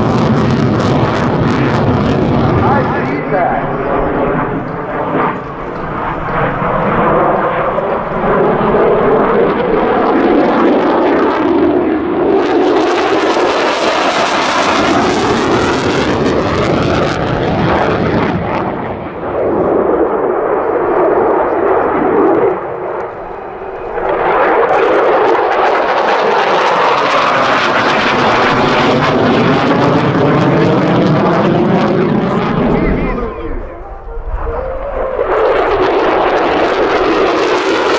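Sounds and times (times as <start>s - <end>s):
jet engine roaring overhead: 0.0s - 37.9s.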